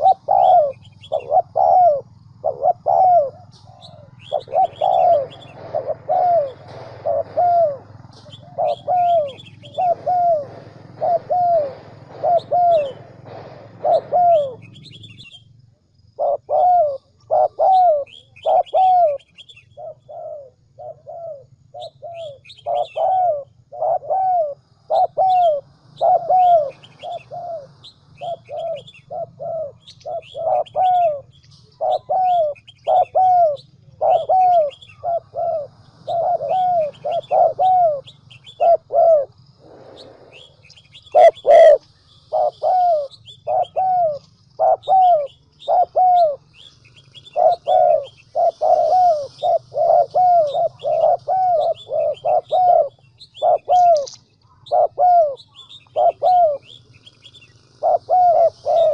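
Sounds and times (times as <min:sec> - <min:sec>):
dove cooing: 0:00.0 - 0:15.4, 0:16.2 - 0:58.9
small birds chirping: 0:00.0 - 0:58.9.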